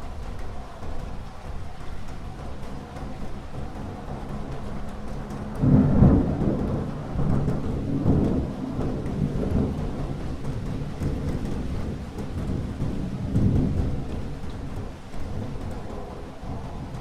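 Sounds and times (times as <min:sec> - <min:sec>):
steady rain: 0:00.0 - 0:17.0
thunderclap and rolling thunder: 0:00.0 - 0:17.0.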